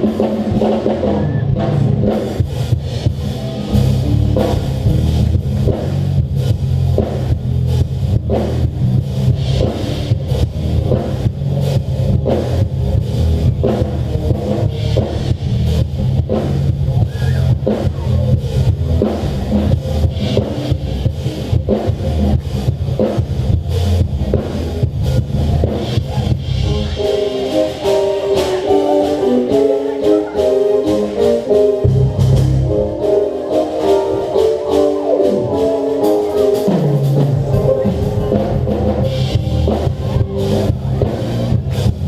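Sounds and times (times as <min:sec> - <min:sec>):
band music with drums bass guitar: 0:00.0 - 0:42.0
held chords: 0:00.0 - 0:42.0.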